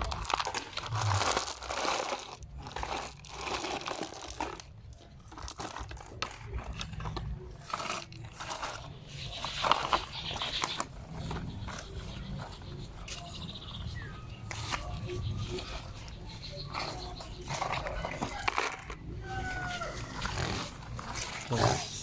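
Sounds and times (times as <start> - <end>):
crunching and rustling handling noise: 0.0 - 22.0.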